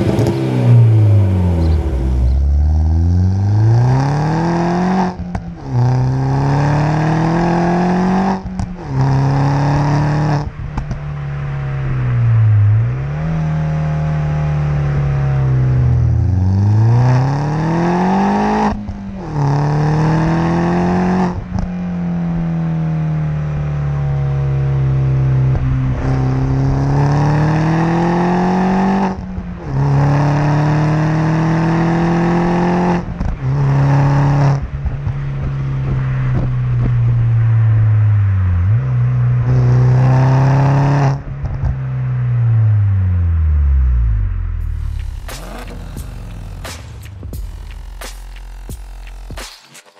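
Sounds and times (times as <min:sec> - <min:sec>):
car exhaust revving: 0:00.0 - 0:49.4.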